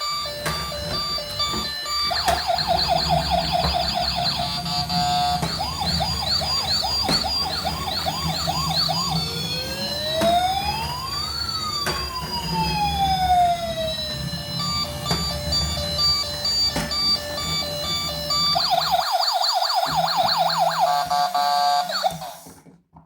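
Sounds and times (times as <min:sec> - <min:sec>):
toy ambulance electronic siren: 0:00.0 - 0:22.6.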